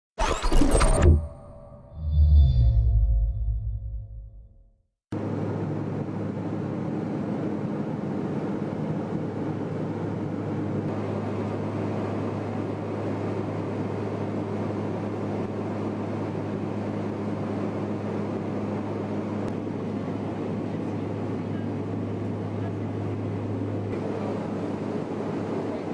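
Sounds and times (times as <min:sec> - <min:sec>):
steady engine drone: 0:05.1 - 0:25.9.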